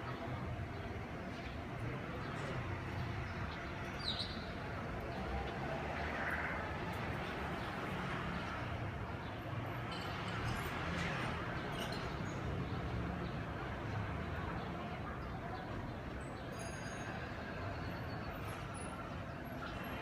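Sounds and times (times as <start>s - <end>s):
distant traffic hum: 0.0s - 20.0s.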